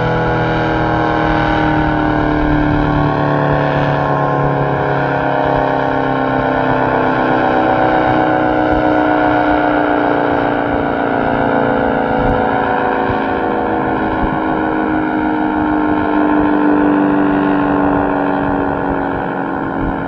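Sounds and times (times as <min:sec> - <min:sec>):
tornado siren two-tone chord: 0:00.0 - 0:20.0.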